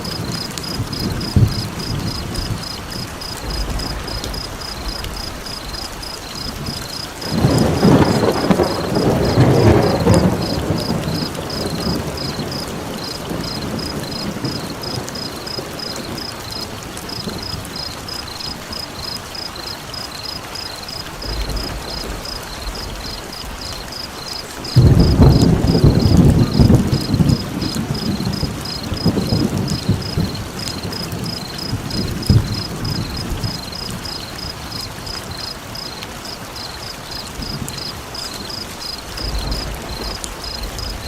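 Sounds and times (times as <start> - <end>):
thunder rumble: 0.0 - 19.2, 21.1 - 41.0
steady rain: 0.0 - 41.0.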